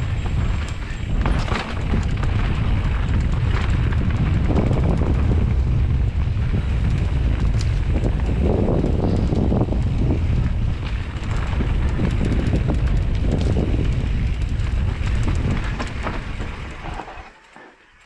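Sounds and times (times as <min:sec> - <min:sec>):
wind buffeting microphone: 0:00.0 - 0:17.2
small rattles and ticks: 0:00.0 - 0:18.0.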